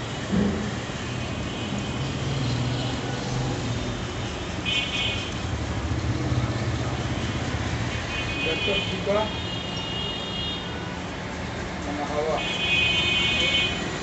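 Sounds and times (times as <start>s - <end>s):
traffic engines running: 0.0s - 14.0s.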